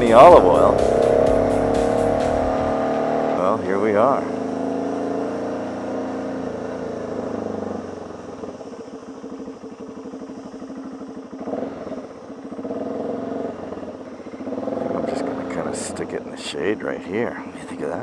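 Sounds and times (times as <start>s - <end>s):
motorcycle throttle blips: 0.0s - 16.2s
motorcycle engine idling: 0.0s - 18.0s.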